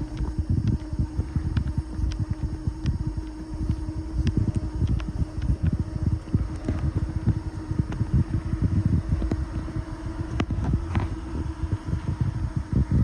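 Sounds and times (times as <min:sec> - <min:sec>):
vehicle engine humming: 0:00.0 - 0:13.0
wind buffeting microphone: 0:00.0 - 0:13.0.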